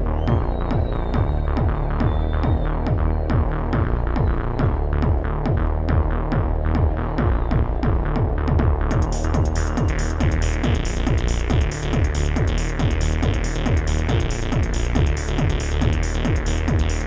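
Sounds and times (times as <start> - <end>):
kick drum: 0.0 - 17.0
techno music: 0.0 - 17.0.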